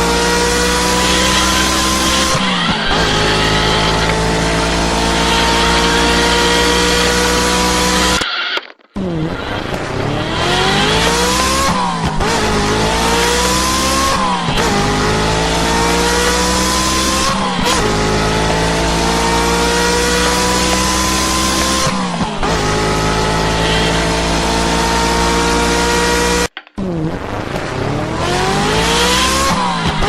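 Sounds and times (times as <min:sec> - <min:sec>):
car engine accelerating: 0:00.0 - 0:08.3, 0:09.0 - 0:30.0.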